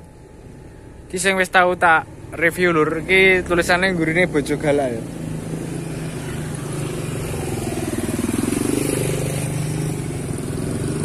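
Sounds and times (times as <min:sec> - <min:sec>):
motorcycle engine running: 0:00.0 - 0:11.0
steady engine hum: 0:00.0 - 0:11.0.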